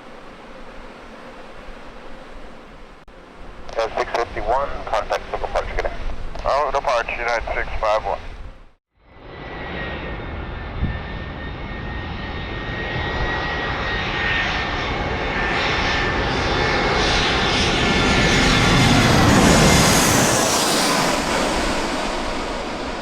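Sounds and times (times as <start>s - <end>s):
jet airliner engines rushing: 0.0s - 23.0s.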